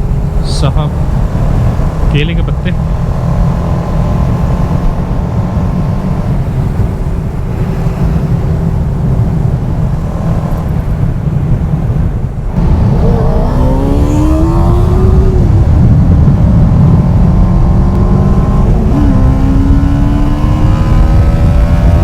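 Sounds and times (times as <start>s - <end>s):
motorcycle engine accelerating: 0.0s - 22.0s
wind rush: 0.0s - 22.0s.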